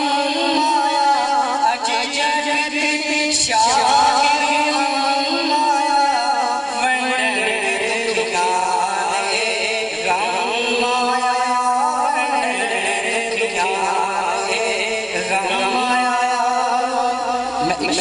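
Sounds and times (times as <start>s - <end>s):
man chanting into a microphone: 0.0s - 18.0s.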